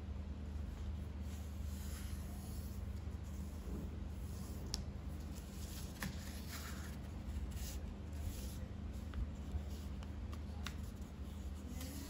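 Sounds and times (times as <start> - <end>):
steady low hum: 0.0 - 12.0
paper rustling and creasing: 1.2 - 12.0.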